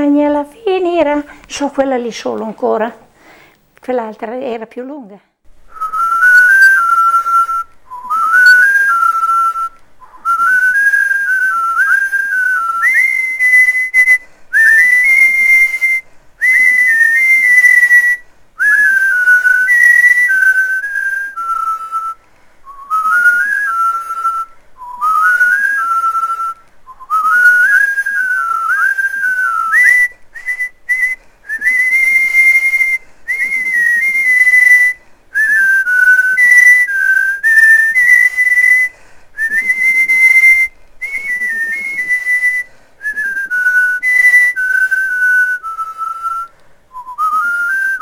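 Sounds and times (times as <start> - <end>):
person whistling a melody: 5.7 - 48.0.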